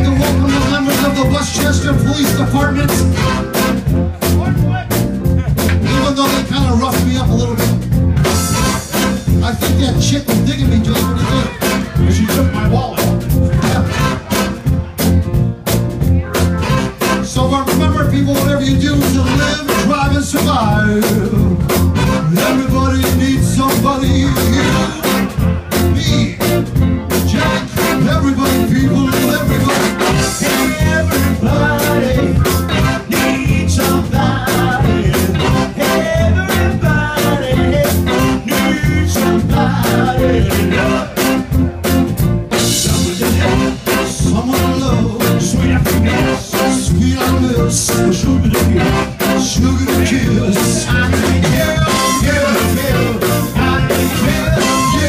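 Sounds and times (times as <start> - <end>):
live blues band playing: 0.0 - 55.0.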